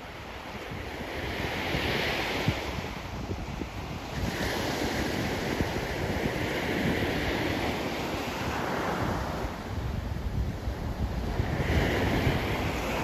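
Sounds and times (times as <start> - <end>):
sea surf washing onto beach: 0.0 - 13.0
wind rumbling on microphone: 0.0 - 13.0.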